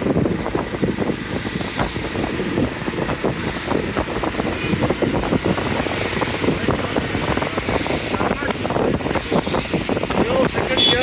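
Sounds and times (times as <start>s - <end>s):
moving vehicle noise: 0.0s - 11.0s
wind buffeting microphone: 0.0s - 11.0s.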